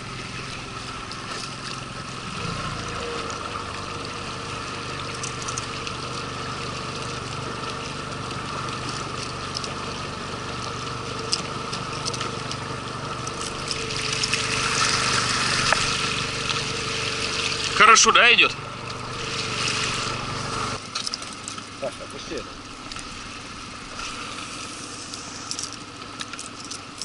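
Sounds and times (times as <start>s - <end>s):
outboard motor running: 0.0s - 27.0s
water rushing along hull: 0.0s - 27.0s.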